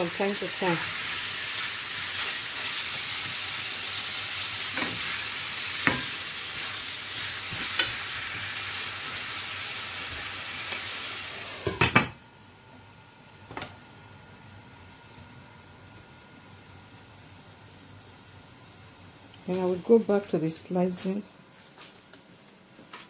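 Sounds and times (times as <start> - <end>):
chicken and onions sizzling: 0.0 - 20.5.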